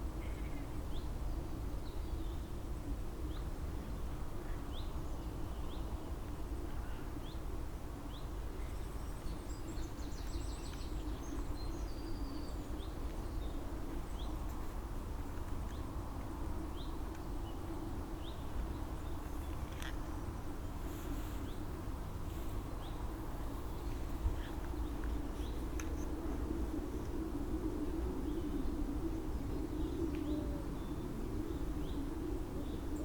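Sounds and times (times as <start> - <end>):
low background noise: 0.0 - 33.0.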